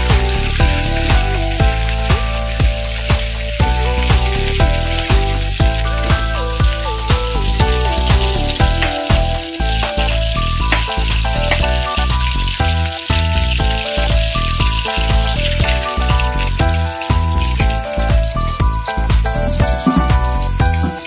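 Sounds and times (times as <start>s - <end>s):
background music: 0.0s - 21.0s
chilies sizzling in hot oil: 0.0s - 21.0s.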